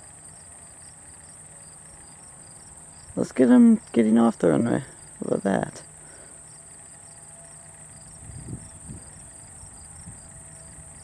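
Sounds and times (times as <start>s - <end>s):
crickets chirping: 0.0s - 11.0s
high insect drone: 0.0s - 11.0s.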